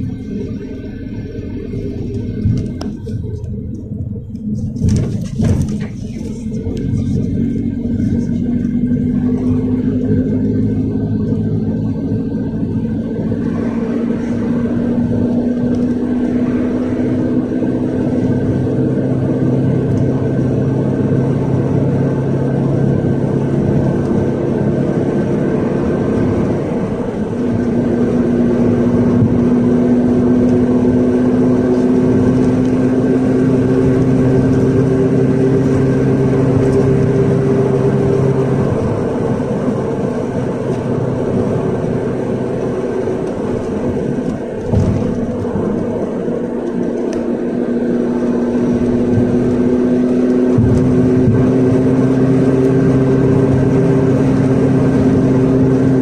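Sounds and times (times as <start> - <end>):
minibus engine droning: 0.0 - 56.0
tyre and road noise: 0.0 - 56.0.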